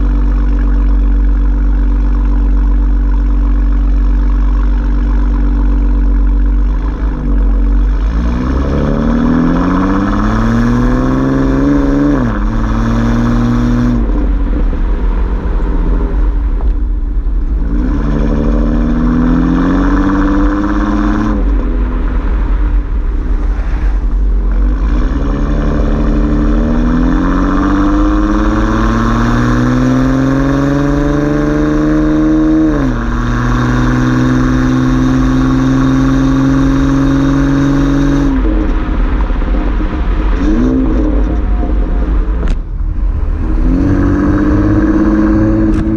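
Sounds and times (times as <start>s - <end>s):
car engine accelerating: 0.0s - 45.9s
deep exhaust rumble: 0.0s - 45.9s.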